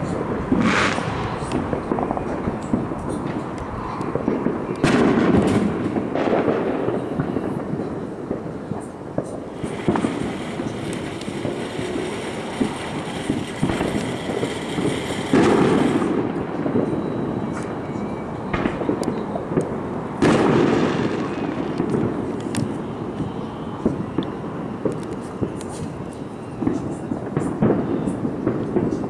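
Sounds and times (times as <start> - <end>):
fireworks banging and crackling: 0.0 - 29.0.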